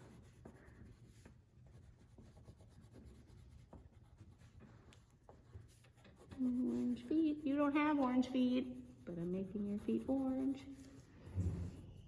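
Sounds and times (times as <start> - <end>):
crayons scratching on paper: 0.0 - 12.0.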